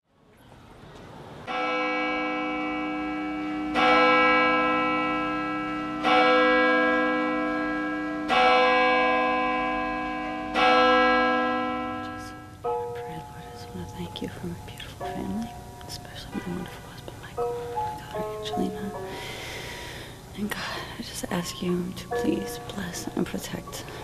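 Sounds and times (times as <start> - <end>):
church bell tolling: 1.5 - 19.8, 20.8 - 24.0.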